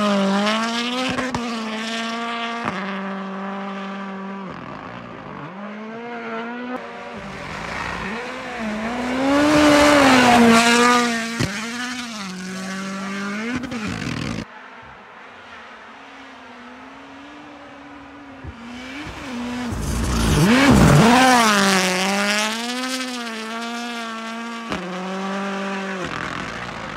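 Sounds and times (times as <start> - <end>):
rally car engine at full speed: 0.0 - 26.9.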